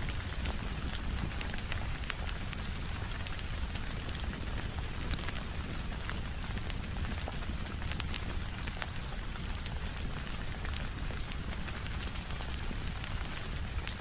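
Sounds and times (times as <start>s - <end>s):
rain on a window: 0.0s - 14.0s
sharp ticks and pops: 0.1s - 14.0s.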